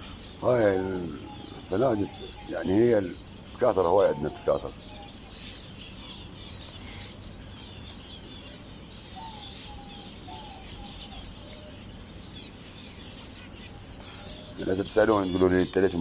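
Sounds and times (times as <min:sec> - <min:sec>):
finches chirping: 0:00.0 - 0:16.0
low whistled bird notes: 0:00.0 - 0:16.0.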